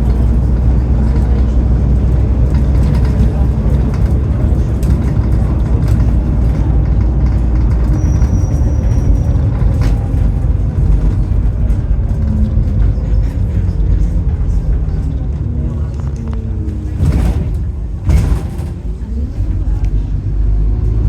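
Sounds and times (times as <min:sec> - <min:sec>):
bus engine low rumble: 0:00.0 - 0:21.0.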